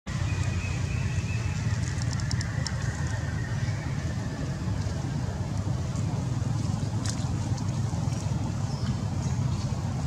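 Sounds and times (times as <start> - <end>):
wind buffeting microphone: 0.5 - 10.0.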